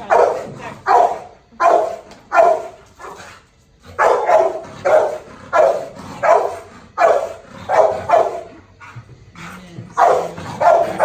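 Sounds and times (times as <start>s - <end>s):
dog barking: 0.0s - 8.6s, 10.0s - 11.0s.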